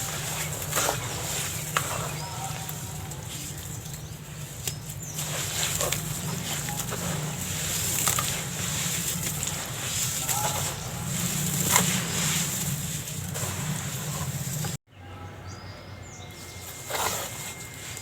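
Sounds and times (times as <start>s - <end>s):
dried cement crumbling: 0.0s - 14.8s.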